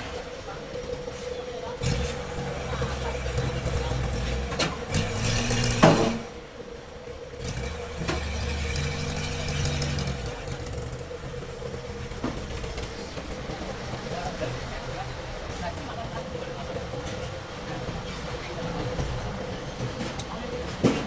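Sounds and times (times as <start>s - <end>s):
engine running unevenly: 0.0s - 21.0s.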